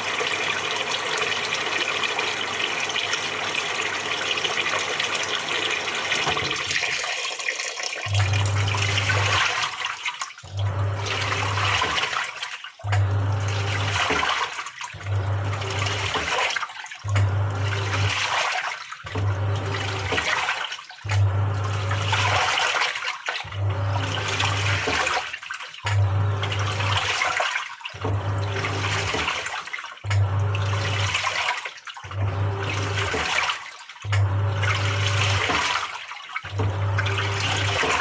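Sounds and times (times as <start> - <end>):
washing machine motor humming: 0.0 - 38.0
water and laundry sloshing: 0.0 - 38.0.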